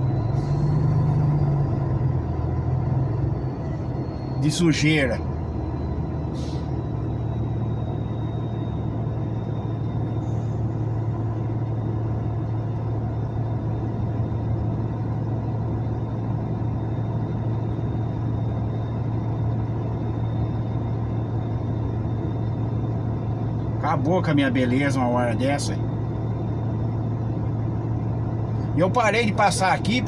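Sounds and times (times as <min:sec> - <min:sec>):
truck engine droning: 0:00.0 - 0:30.0.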